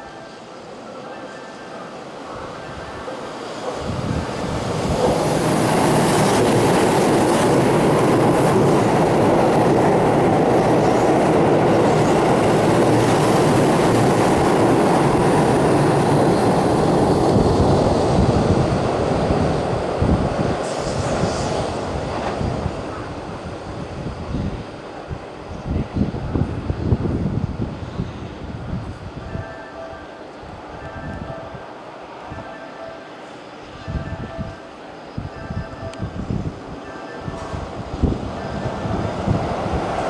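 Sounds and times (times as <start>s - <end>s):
train wheels rushing on rail: 0.0s - 40.0s.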